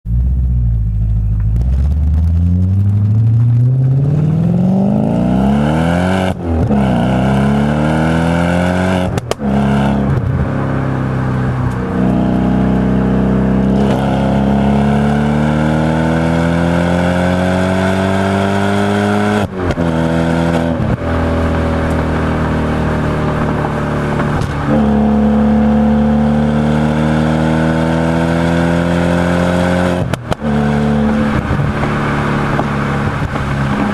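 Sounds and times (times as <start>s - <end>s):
car engine accelerating hard: 0.2s - 33.9s.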